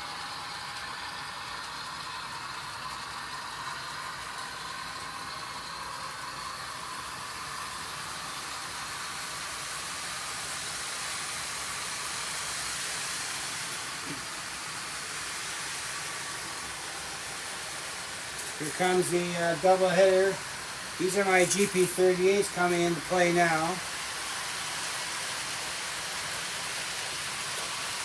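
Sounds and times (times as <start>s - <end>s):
model train motors whirring: 0.0s - 28.0s.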